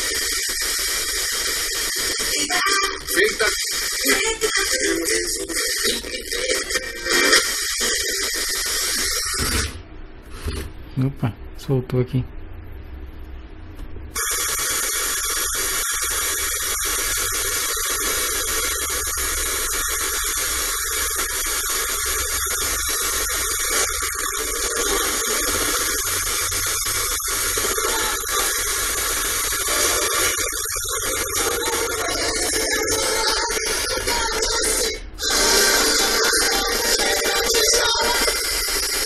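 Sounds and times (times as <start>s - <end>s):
radio static hiss: 0.0s - 10.7s, 14.2s - 39.0s.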